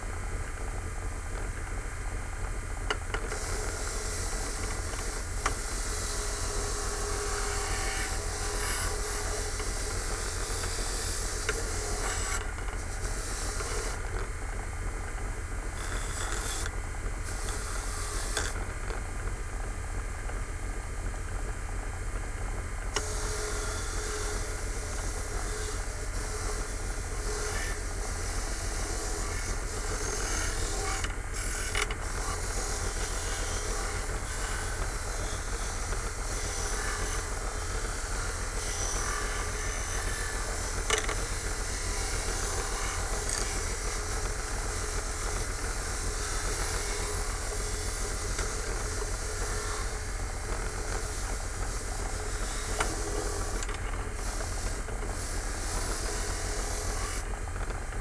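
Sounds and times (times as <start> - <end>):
bench grinder humming: 2.9 - 58.0.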